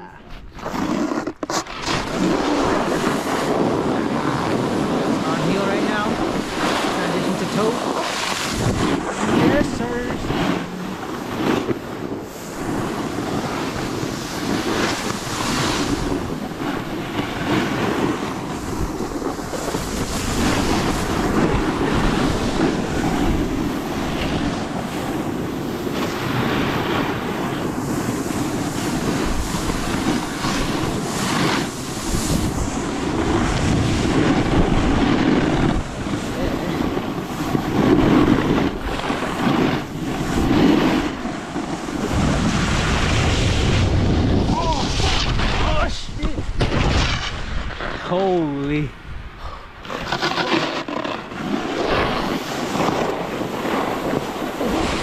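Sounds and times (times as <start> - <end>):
snowboard scraping on snow: 0.0 - 48.7, 49.4 - 55.0
wind on microphone: 0.0 - 55.0.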